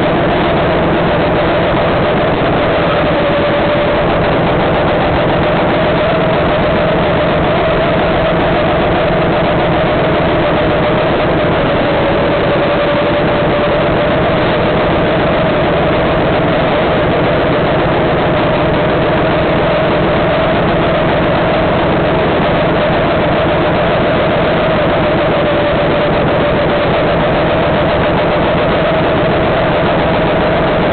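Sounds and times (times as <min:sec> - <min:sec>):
go-kart engine at high revs: 0:00.0 - 0:30.9
steady wash of noise: 0:00.0 - 0:30.9.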